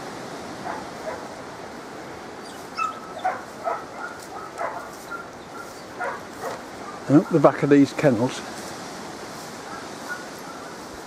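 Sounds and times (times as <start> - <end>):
outdoor background hiss: 0.0 - 11.0
dogs barking and yipping: 0.5 - 7.7, 9.3 - 11.0.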